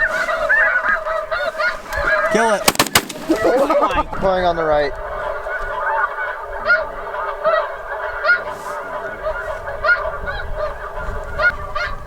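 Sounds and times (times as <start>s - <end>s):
single goose honks: 0.0s - 3.8s, 5.0s - 12.0s
chorus of geese honking: 0.0s - 12.0s.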